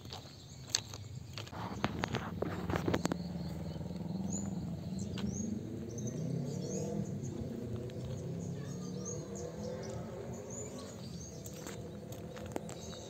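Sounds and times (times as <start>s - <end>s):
small birds chirping: 0.0s - 13.0s
steady low rumble: 1.5s - 13.0s.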